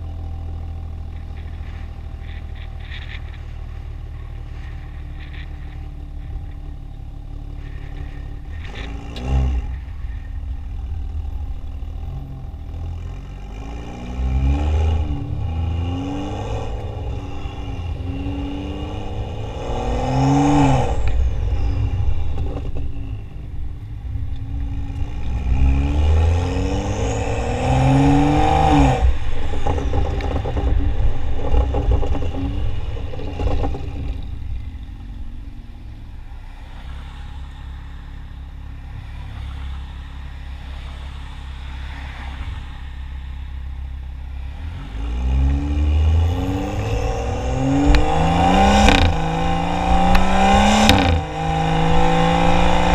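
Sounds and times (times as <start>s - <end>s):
car exhaust idling and revving: 0.0s - 52.9s.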